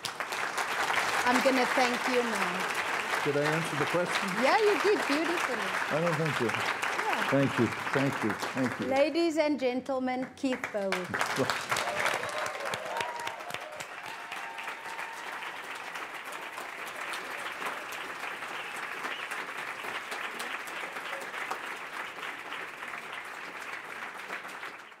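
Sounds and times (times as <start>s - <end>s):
audience applauding: 0.0s - 9.3s, 10.3s - 25.0s.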